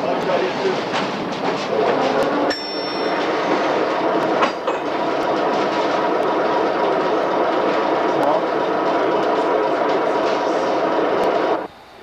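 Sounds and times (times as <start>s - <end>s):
streetcar wheels rumbling and rattling: 0.0s - 11.7s.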